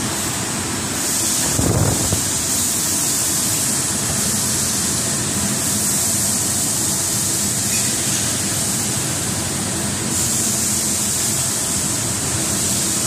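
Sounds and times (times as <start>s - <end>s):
machine high hiss: 0.0s - 13.0s.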